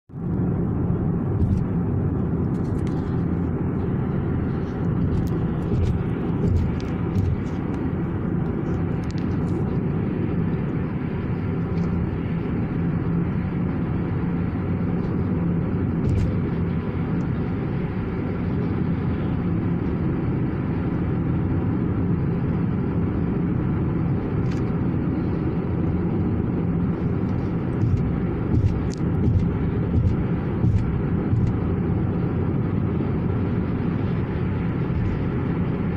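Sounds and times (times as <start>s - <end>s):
car road and engine noise: 0.0s - 35.9s.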